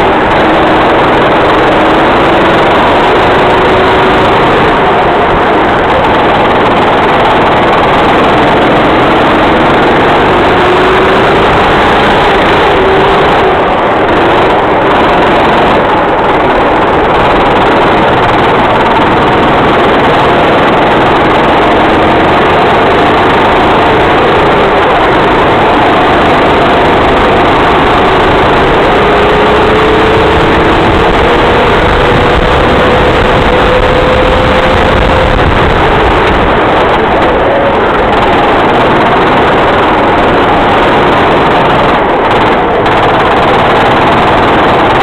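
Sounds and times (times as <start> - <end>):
racing kart engine: 0.0 - 45.0.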